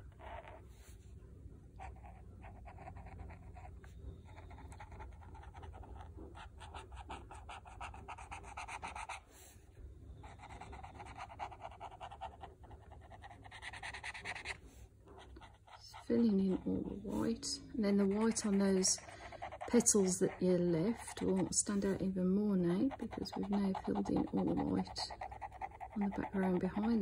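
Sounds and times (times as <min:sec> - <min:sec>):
brush pen rubbing on paper: 0:01.8 - 0:09.6, 0:10.2 - 0:27.0.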